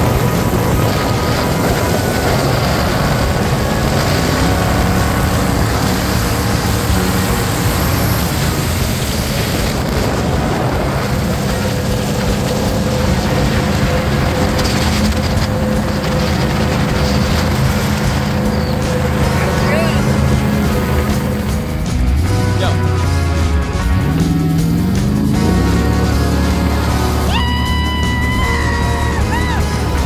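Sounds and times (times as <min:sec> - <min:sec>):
boat engine running: 0:00.0 - 0:30.0
water and wind rushing: 0:00.0 - 0:30.0.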